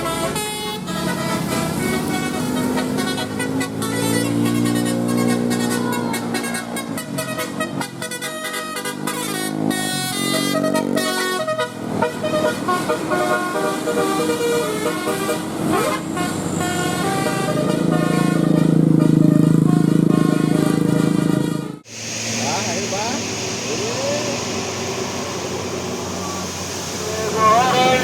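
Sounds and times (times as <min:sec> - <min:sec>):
bus musical air horns: 0:00.0 - 0:28.0.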